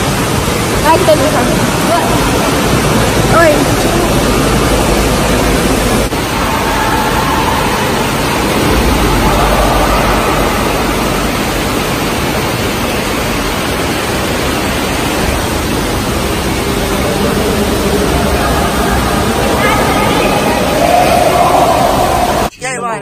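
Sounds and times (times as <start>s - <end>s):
loud steady rushing noise: 0.0s - 22.5s.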